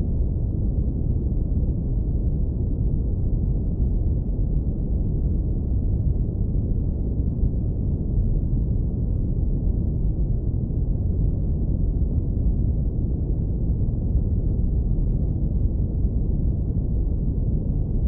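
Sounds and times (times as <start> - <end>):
deep brown noise rumble: 0.0 - 18.0.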